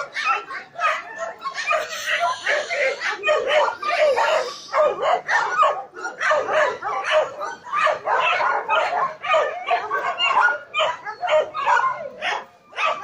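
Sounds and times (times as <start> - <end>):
dog barking and yapping: 0.0 - 13.0.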